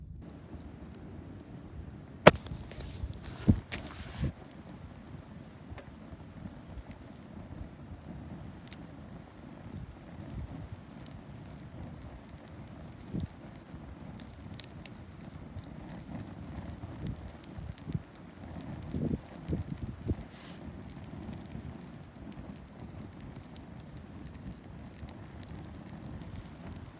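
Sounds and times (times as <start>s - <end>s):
campfire crackling and popping: 0.1s - 26.9s.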